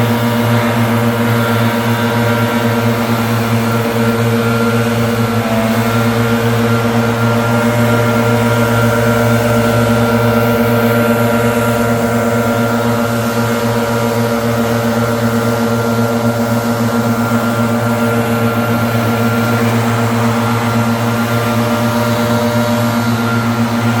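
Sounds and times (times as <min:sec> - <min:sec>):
leaf blower running: 0:00.0 - 0:24.0.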